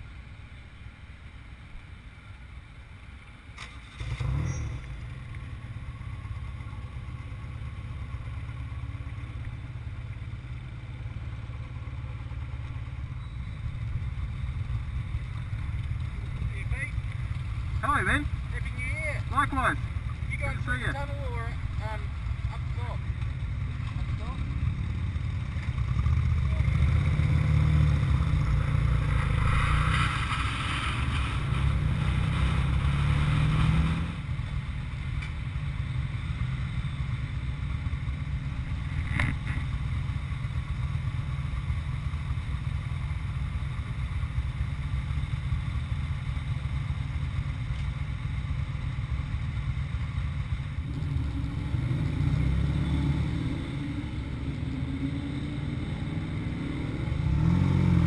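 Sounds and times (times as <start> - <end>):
motorcycle engine: 3.5 - 58.0.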